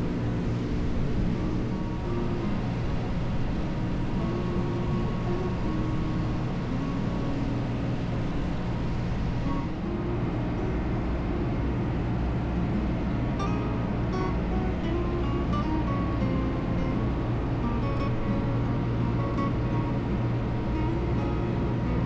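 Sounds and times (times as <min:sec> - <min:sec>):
ferry engine droning: 0:00.0 - 0:22.0.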